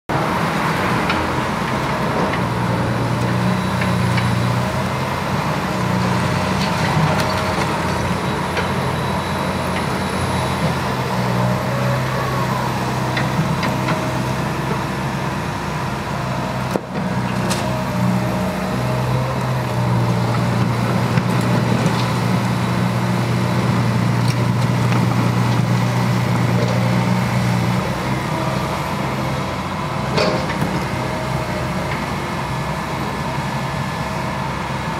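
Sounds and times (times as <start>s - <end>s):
excavator diesel engine hum: 0.1s - 34.9s.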